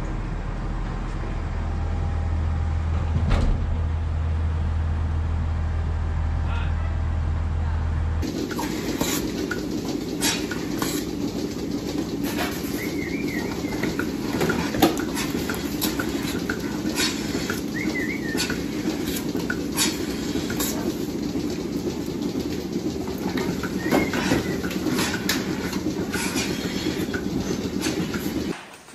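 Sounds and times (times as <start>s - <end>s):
milking machinery rumble: 0.0s - 28.9s.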